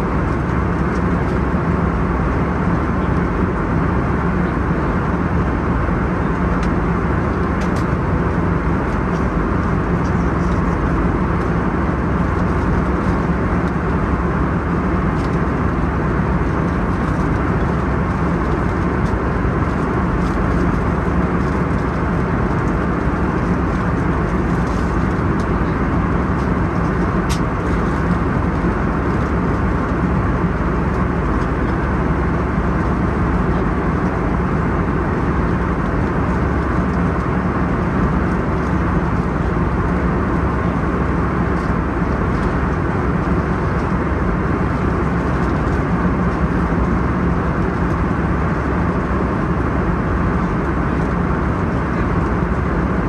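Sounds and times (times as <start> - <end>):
airflow rush and engine drone: 0.0 - 53.0
steady low hum: 0.0 - 53.0.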